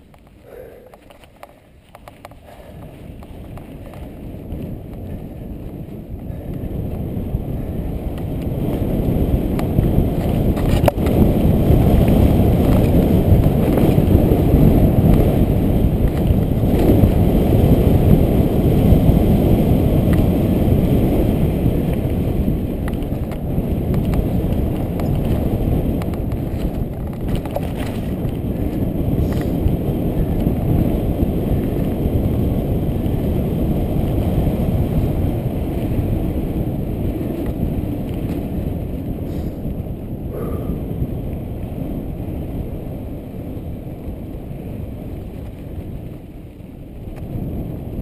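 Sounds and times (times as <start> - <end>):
wind rumbling on microphone: 0.0 - 48.0.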